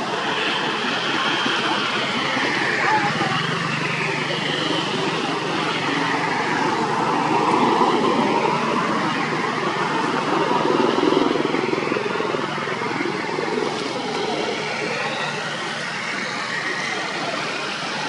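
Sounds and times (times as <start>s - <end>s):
passing motor traffic: 0.0s - 18.0s.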